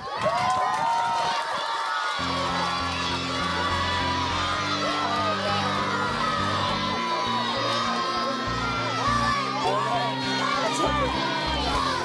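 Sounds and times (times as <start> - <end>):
children shouting and cheering: 0.0 - 12.0
background music: 2.2 - 12.0.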